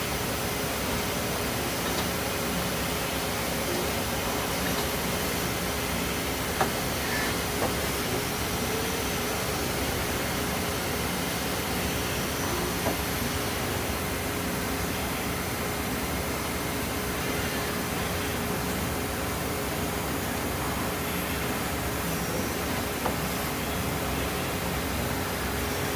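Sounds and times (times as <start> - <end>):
lathe machine hum and hiss: 0.0 - 25.9.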